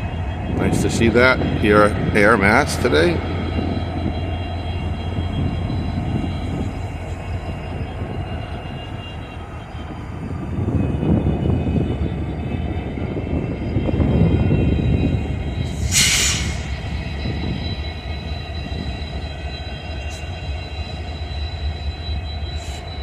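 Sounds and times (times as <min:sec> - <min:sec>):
diesel locomotive engine drone: 0:00.0 - 0:23.0
faint high steady tones: 0:00.0 - 0:23.0.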